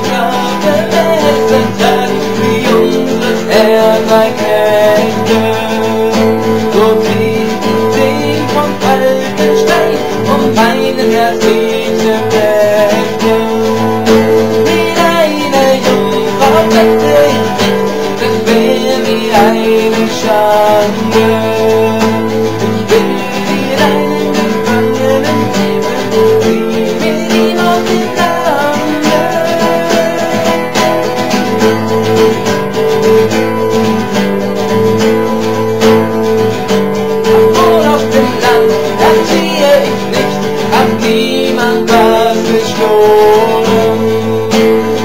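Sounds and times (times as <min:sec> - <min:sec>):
acoustic guitar strumming chords: 0:00.0 - 0:45.0.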